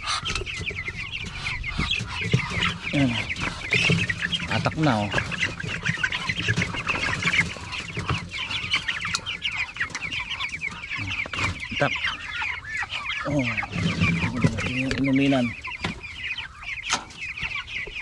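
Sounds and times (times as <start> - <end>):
chickens clucking and calling: 0.0 - 18.0.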